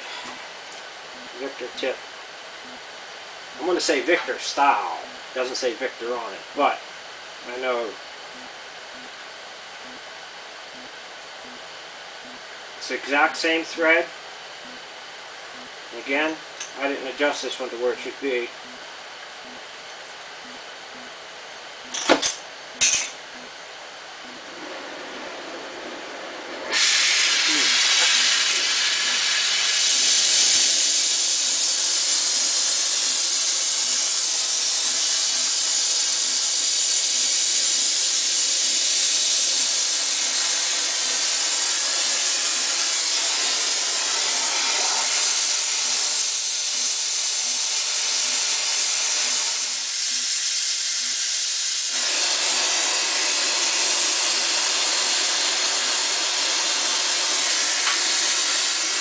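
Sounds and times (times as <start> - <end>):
welding torch flame hissing: 0.0 - 59.0.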